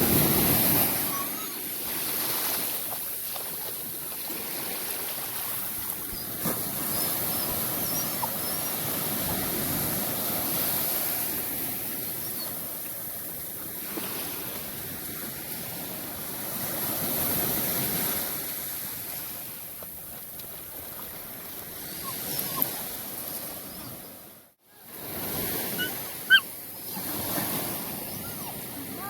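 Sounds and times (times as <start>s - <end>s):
ocean surf washing on beach: 0.0s - 23.6s.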